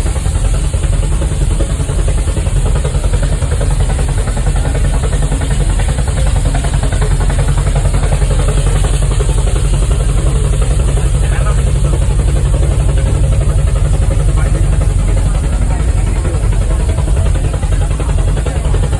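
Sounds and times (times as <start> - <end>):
steam locomotive rumbling: 0.0 - 18.9.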